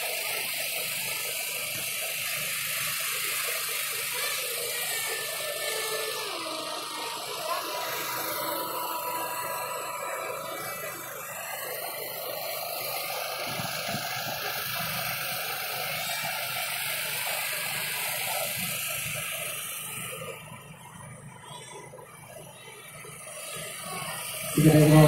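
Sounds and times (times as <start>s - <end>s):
model jet high rushing whine: 0.0s - 25.0s.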